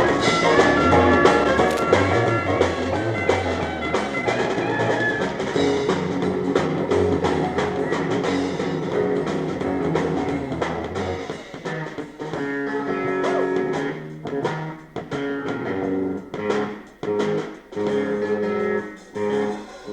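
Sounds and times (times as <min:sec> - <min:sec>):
drum kit: 0:00.0 - 0:19.9
electric guitar: 0:00.0 - 0:19.9.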